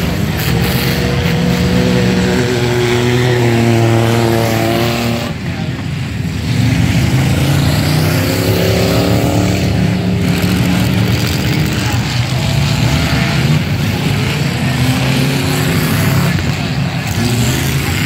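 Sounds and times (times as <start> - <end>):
racing truck engines accelerating: 0.0 - 18.0.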